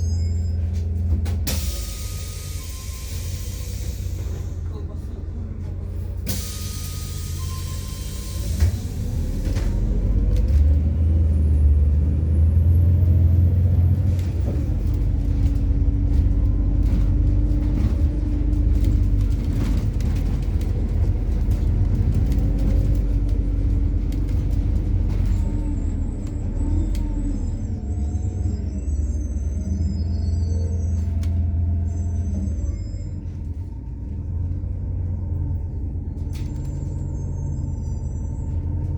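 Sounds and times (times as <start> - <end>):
bus body rattling: 0.0 - 38.9
bus engine drone: 0.0 - 38.9.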